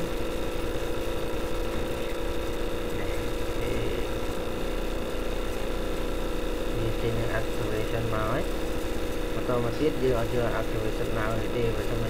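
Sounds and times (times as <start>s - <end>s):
steady low tonal hum: 0.0s - 12.0s.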